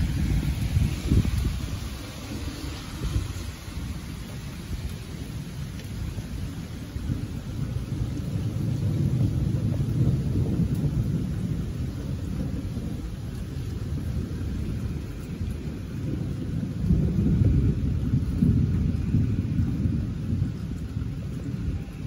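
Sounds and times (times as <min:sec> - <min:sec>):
rain hissing: 0:00.0 - 0:22.0
thunder rumbling: 0:00.0 - 0:22.0.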